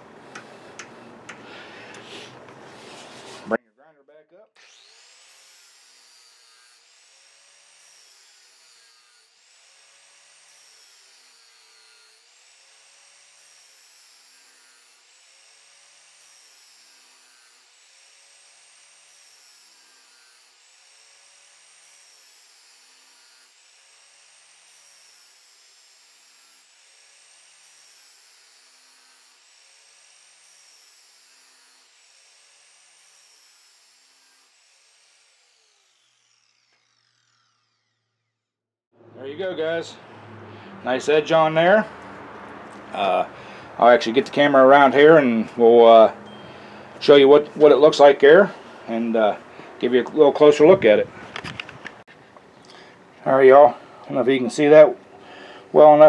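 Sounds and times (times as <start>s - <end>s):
angle grinder grinding steel: 0.0s - 3.6s, 4.6s - 38.4s, 39.3s - 56.0s.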